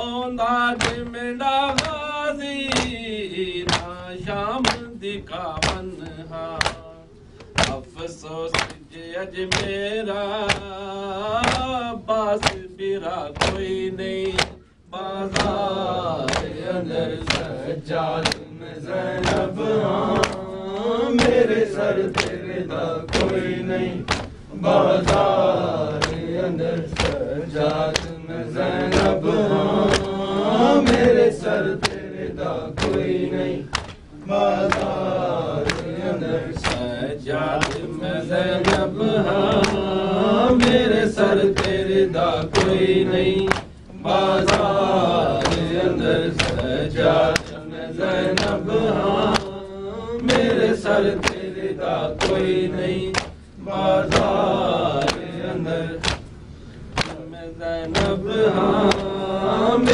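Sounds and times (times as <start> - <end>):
man chanting a lament: 0.0 - 56.0
other voices chanting: 0.0 - 59.9
hand slaps on chests: 0.7 - 56.3, 56.9 - 59.2.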